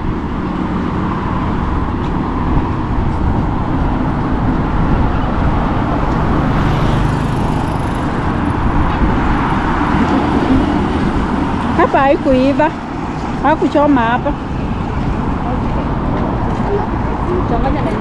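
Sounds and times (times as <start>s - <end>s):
road traffic noise: 0.0s - 18.0s
vehicle passing: 0.0s - 18.0s.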